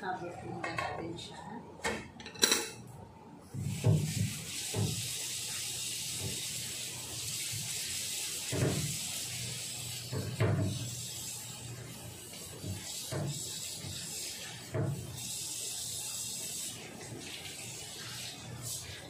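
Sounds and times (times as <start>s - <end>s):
risotto simmering hiss: 3.5s - 19.0s.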